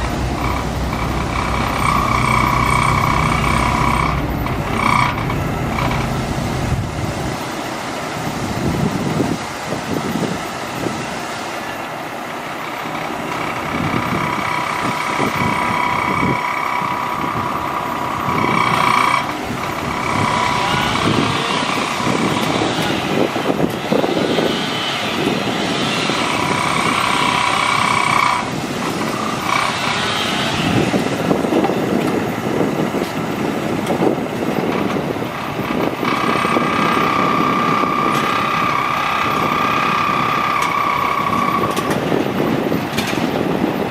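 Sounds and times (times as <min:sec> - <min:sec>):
steady engine whine: 0:00.0 - 0:43.9
truck diesel engine running: 0:00.0 - 0:43.9.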